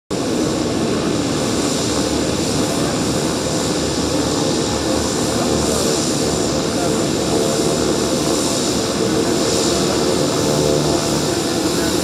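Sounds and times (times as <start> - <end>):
turboprop engine drone: 0.1 - 12.0.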